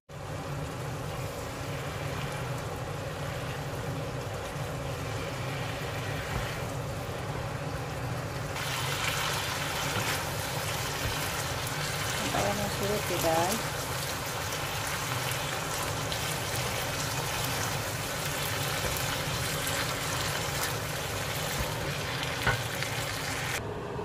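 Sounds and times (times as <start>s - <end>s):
meat sizzling in a wok: 0.1s - 23.6s.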